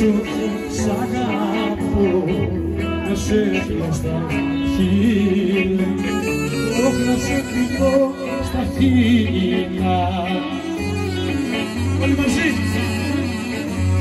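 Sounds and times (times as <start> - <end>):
voices singing: 0.0 - 14.0.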